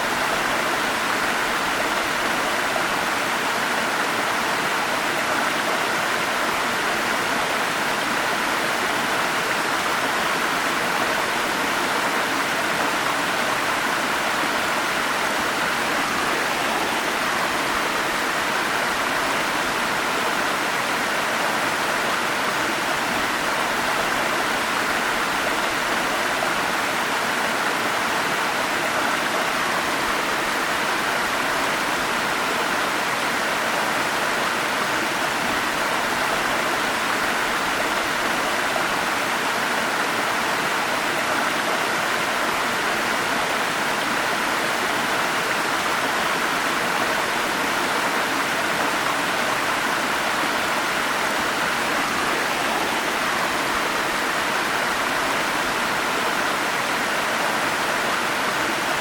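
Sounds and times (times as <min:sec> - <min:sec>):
forest stream rushing: 0:00.0 - 0:59.0.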